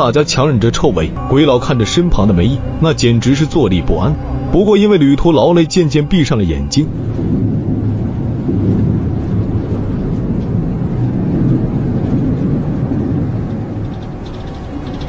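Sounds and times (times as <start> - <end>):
moving bus rumble: 0.0 - 15.0.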